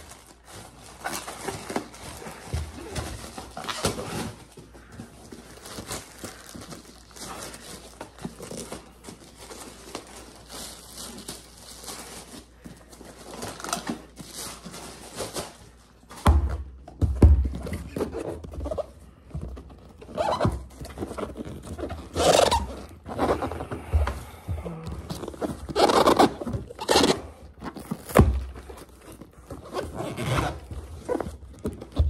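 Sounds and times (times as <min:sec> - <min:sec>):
packaging rustling and crinkling: 0:00.0 - 0:16.8, 0:17.4 - 0:32.0.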